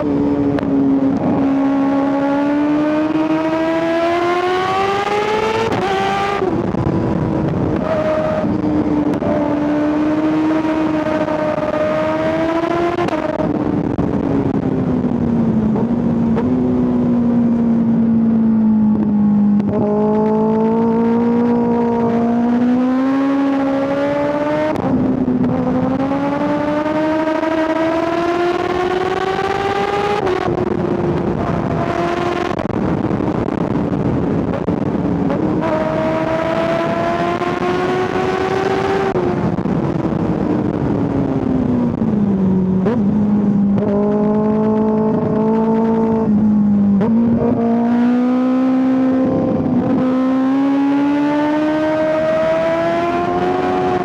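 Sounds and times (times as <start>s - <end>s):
wind rush: 0.0s - 54.0s.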